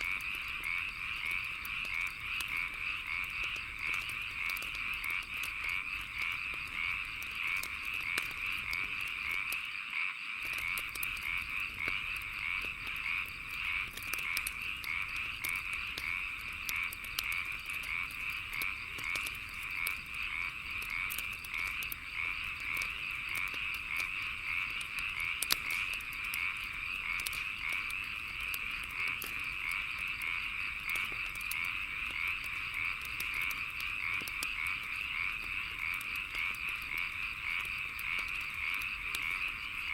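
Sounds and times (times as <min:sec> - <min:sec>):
wood fire crackling: 0:00.0 - 0:09.8, 0:10.4 - 0:39.9
frogs calling: 0:00.0 - 0:39.9.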